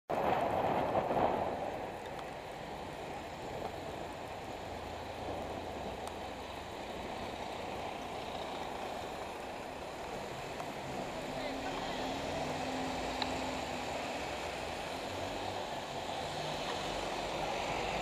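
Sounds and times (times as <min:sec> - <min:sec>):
city road traffic: 0:00.1 - 0:18.0.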